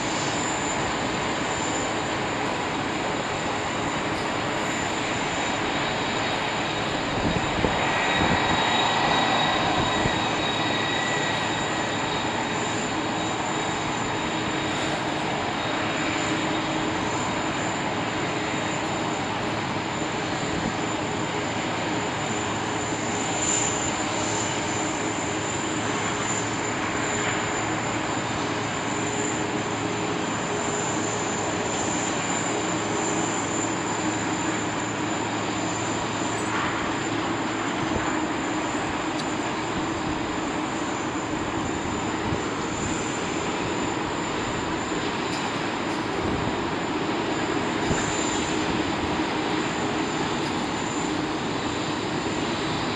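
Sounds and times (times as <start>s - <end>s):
jet engines whining: 0.0s - 52.9s.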